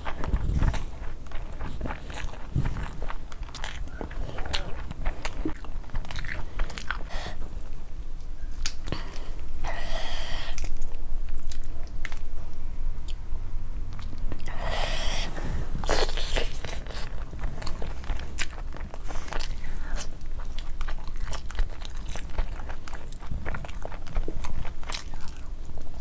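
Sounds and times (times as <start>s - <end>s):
wet chewing: 0.0s - 12.3s, 13.9s - 26.0s.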